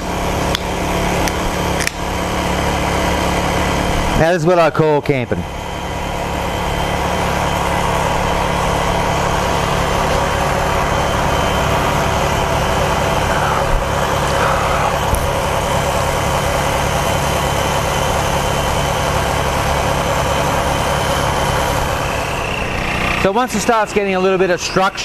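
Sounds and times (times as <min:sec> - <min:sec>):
electric air pump running: 0:00.0 - 0:25.0.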